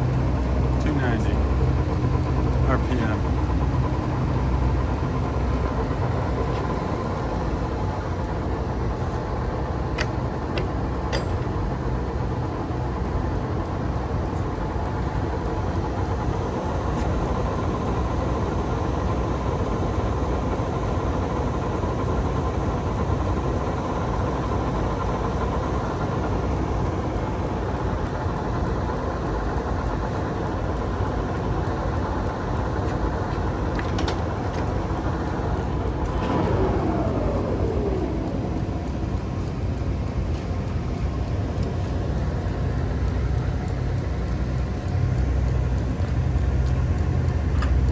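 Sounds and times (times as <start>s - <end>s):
lathe machine hum: 0.0s - 47.9s.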